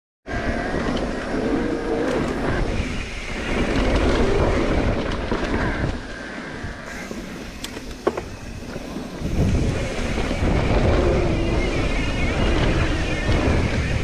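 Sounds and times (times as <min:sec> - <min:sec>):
bike rattling: 0:00.3 - 0:14.0
bike tyres rumbling on dirt: 0:00.3 - 0:14.0.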